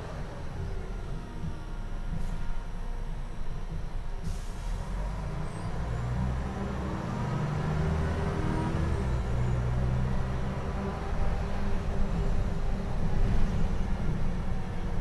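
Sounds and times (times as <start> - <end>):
bus engine from inside: 0.0 - 15.0.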